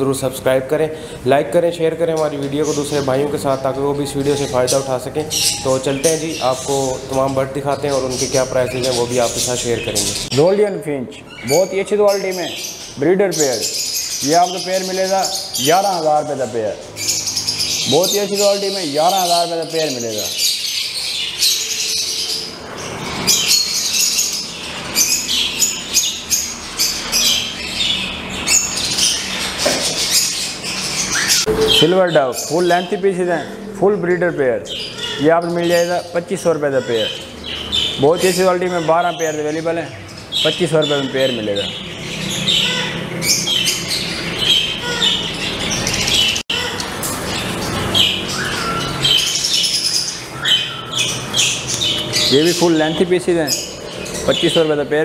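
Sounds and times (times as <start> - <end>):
caged birds chirping: 0.0 - 55.0.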